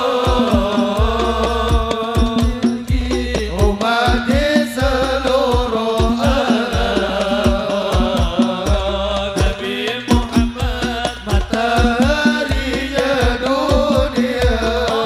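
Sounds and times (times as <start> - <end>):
drum beating steady rhythm: 0.0 - 15.0.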